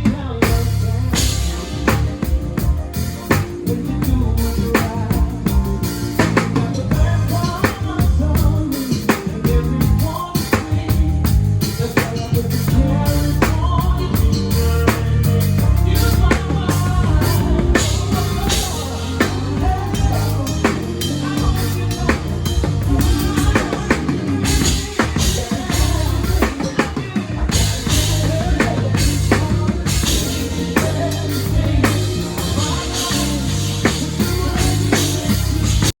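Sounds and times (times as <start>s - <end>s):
heavy bass line: 0.0s - 36.0s
live band playing: 0.0s - 36.0s.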